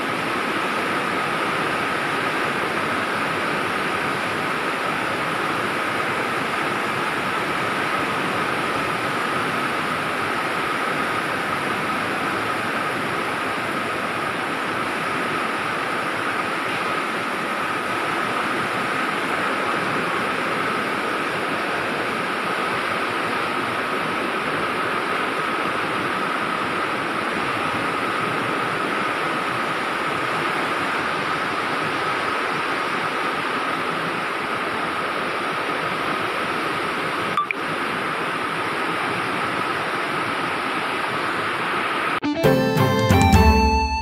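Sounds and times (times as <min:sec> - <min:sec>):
water rushing: 0:00.0 - 0:42.2.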